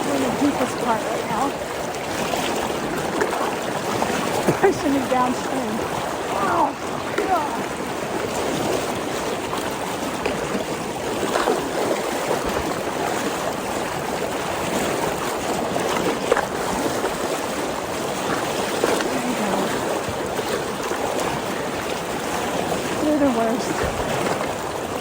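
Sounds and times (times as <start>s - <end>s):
creek water rushing: 0.0s - 25.0s
splashes of wading: 0.0s - 25.0s.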